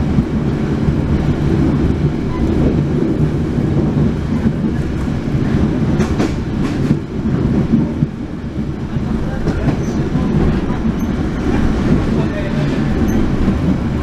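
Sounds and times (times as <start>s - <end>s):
train rumble inside coach: 0.0s - 14.0s.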